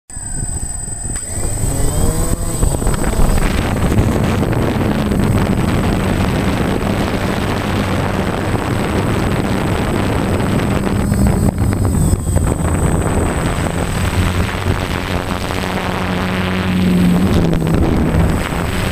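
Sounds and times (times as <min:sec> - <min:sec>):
drone motors and propellers whining: 0:00.1 - 0:18.9
wind rushing over microphone: 0:00.1 - 0:18.9.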